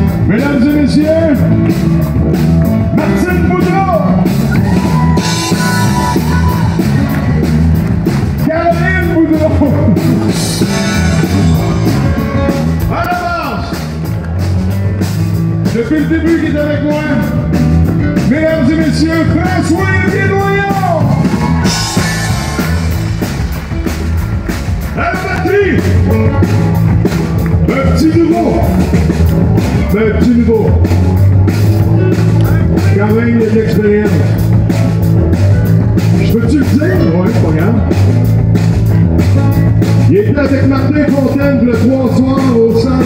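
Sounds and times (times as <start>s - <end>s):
drum kit beat: 0.0s - 43.0s
electric bass guitar: 0.0s - 43.0s.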